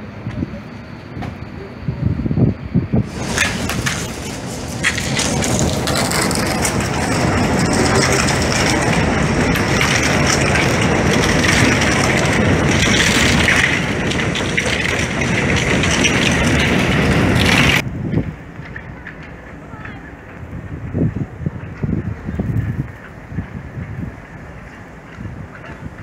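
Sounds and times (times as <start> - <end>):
outdoor background: 0.0 - 26.0
train wheels rumbling on rail: 0.0 - 26.0.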